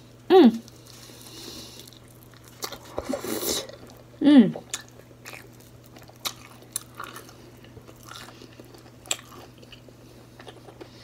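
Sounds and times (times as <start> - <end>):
faint steady hum: 0.0 - 11.0
chewing fried seafood: 0.6 - 11.0.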